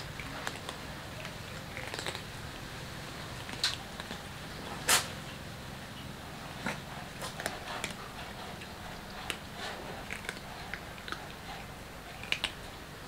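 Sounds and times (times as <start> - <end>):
cats crunching dry kibble: 0.0 - 5.2, 6.3 - 13.0.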